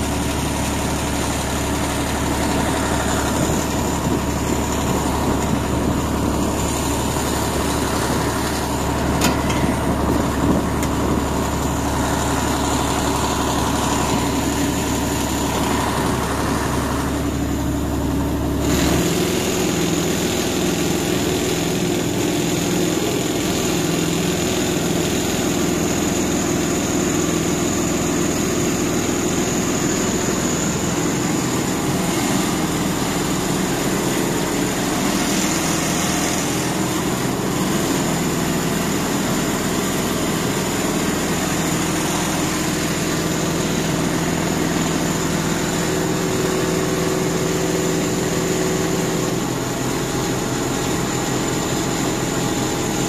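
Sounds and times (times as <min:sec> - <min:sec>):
combine harvester engine running: 0:00.0 - 0:53.0.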